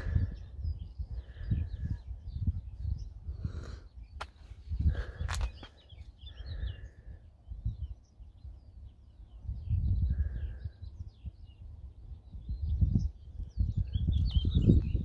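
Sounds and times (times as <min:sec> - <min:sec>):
songbirds chirping and trilling: 0:00.0 - 0:15.0
wind buffeting microphone: 0:00.0 - 0:15.0.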